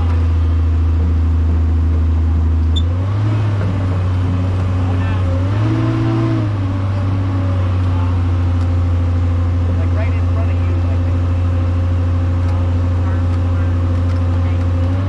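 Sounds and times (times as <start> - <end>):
large diesel engine running: 0.0 - 15.0.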